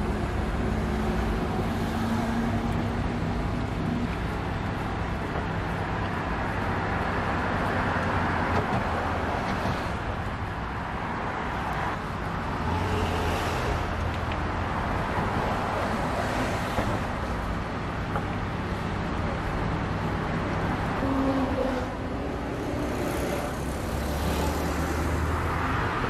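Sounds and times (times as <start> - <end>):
road traffic engine hum: 0.0 - 26.0.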